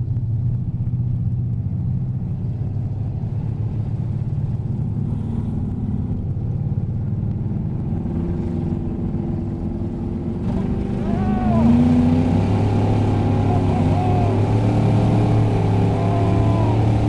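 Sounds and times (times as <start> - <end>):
race car engine from inside cabin: 0.0 - 17.0.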